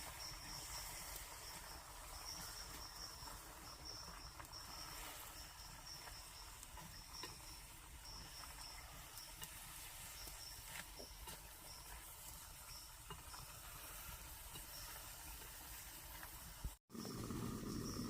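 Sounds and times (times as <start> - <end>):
insect chirping trills: 0.0 - 18.0.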